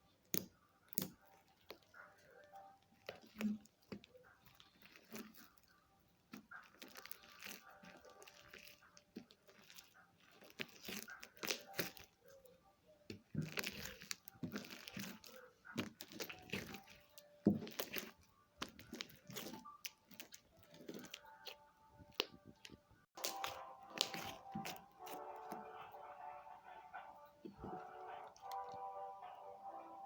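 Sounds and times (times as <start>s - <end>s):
slime crackling and squishing: 0.0s - 26.0s.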